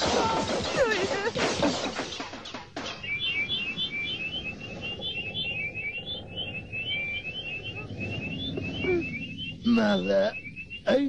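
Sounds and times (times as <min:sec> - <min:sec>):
cartoon birds twittering: 0:00.0 - 0:11.0.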